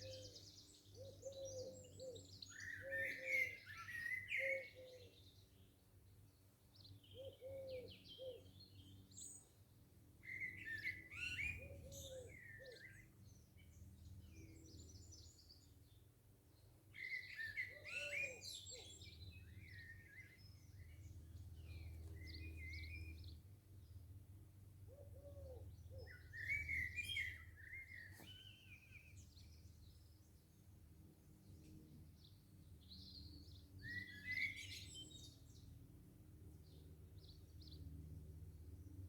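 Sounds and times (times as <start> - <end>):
birds chirping and warbling: 0.0 - 24.2, 24.8 - 38.1.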